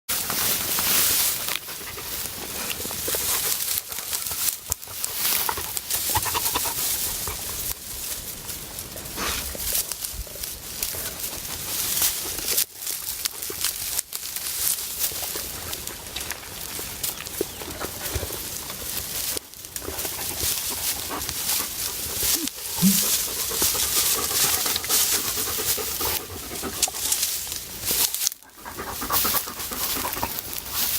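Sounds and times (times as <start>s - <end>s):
dog chewing with crunching: 0.1s - 30.9s
rustling of a bush: 0.1s - 30.9s.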